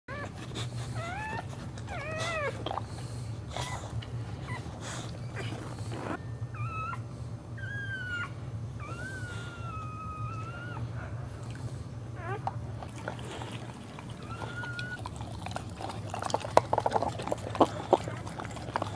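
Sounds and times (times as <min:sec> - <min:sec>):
dog whining: 0:00.1 - 0:02.9, 0:03.5 - 0:11.3, 0:12.1 - 0:18.9.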